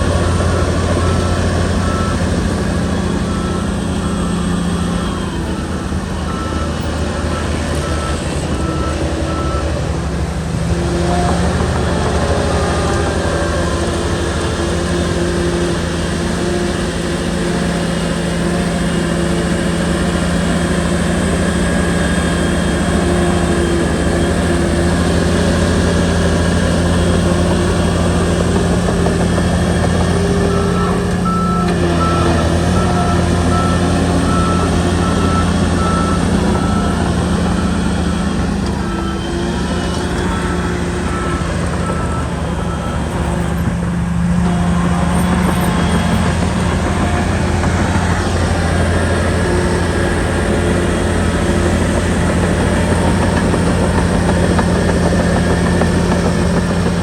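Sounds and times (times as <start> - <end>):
bulldozer diesel engine running: 0.0 - 57.0
reversing alarm beeping: 0.0 - 57.0.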